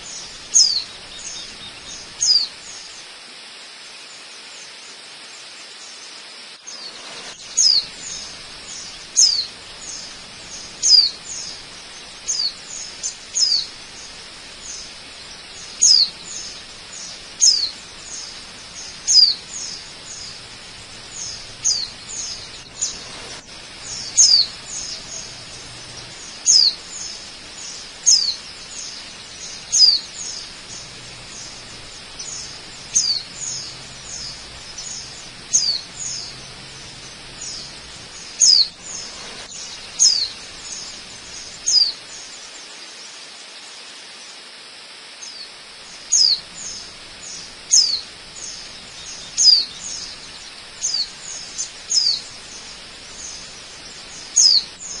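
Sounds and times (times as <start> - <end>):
bird calling with descending notes: 0.0 - 2.8, 6.7 - 42.4, 46.0 - 55.0
hiss of falling water: 0.0 - 55.0.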